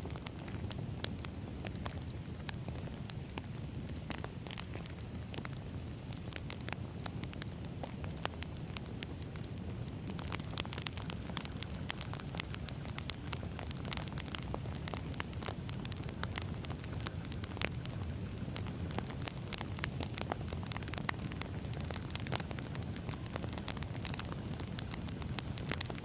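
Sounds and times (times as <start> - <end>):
burning logs crackling and popping: 0.0 - 26.0
low rumble of flames: 0.0 - 26.0.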